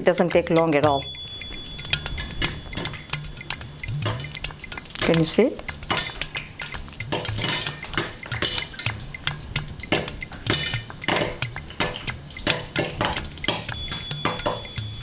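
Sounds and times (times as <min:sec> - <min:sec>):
kernels knocking against pot: 0:00.0 - 0:15.0
popcorn popping: 0:00.0 - 0:15.0.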